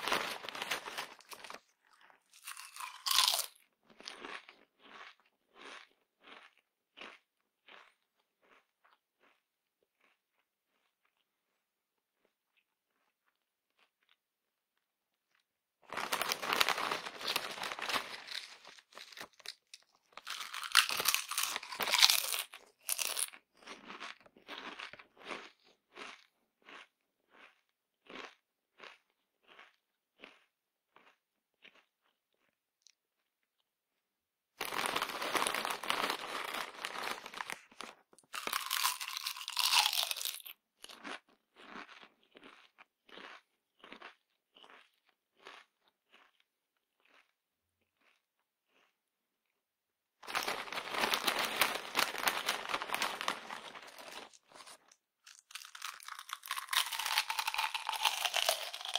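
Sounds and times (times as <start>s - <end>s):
person chewing: 0.0s - 11.6s, 15.3s - 33.6s, 34.6s - 49.6s, 50.2s - 58.9s
person crunching potato chips: 0.0s - 14.6s, 15.2s - 33.3s, 34.6s - 49.6s, 50.2s - 58.9s.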